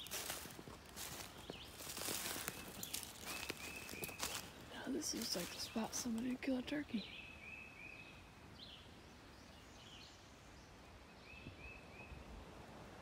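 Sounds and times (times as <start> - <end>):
songbird calling: 0.0 - 12.3
background hiss: 0.0 - 13.0.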